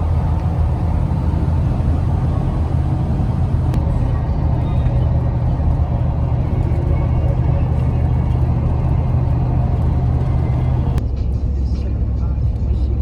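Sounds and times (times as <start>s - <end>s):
vehicle engine and road drone: 0.0s - 13.0s.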